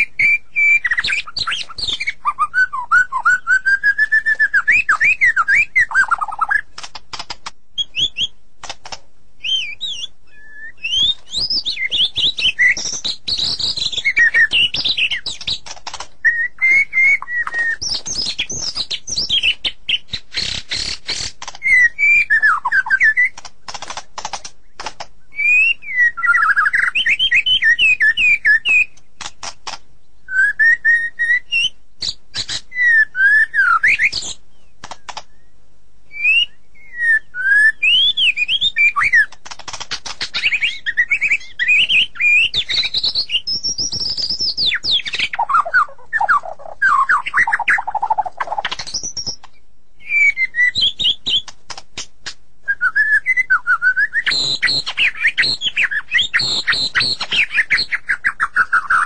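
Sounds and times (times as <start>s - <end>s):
bird whistled song: 0.0s - 6.7s, 7.8s - 8.4s, 9.4s - 23.4s, 24.6s - 29.0s, 30.2s - 39.4s, 40.2s - 51.5s, 52.6s - 59.0s.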